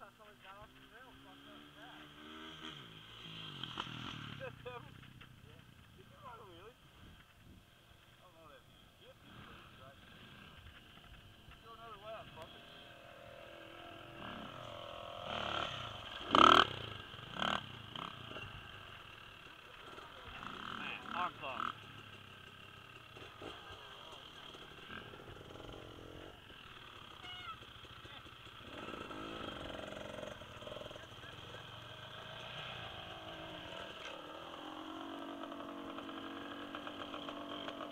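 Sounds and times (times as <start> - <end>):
dirt bike engines idling: 0.0 - 37.9
dirt bike throttle revs: 0.4 - 5.4, 9.0 - 37.9.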